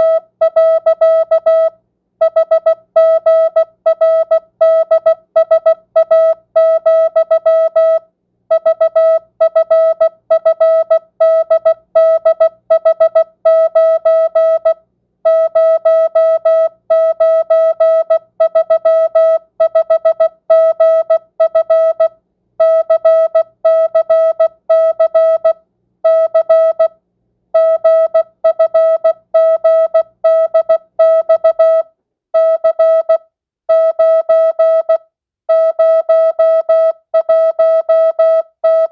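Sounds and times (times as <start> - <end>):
morse code tone: 0.0 - 26.9, 27.6 - 38.9.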